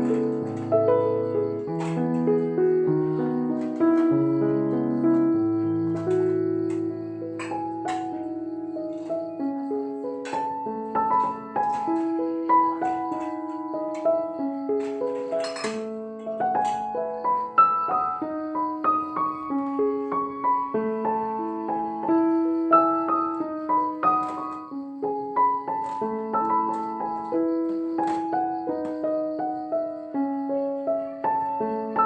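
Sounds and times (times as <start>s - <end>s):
gentle piano melody: 0.0s - 32.0s.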